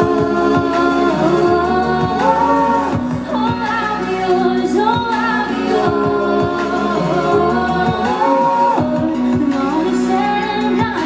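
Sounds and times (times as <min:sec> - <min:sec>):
full band backing: 0:00.0 - 0:11.0
woman singing: 0:00.0 - 0:11.0.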